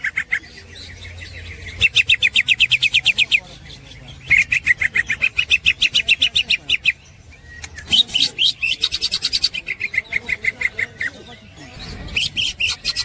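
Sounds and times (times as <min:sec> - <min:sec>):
bird chattering song: 0:00.0 - 0:13.0.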